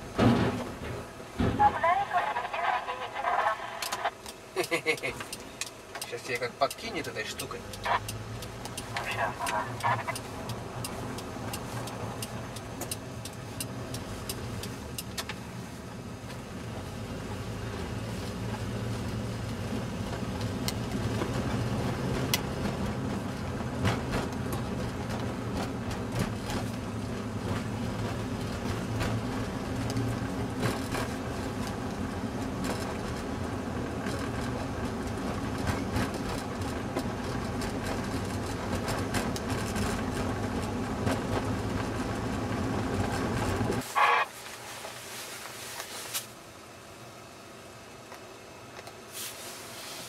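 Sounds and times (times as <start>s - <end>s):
engine and tyre drone in car: 0.0s - 50.0s.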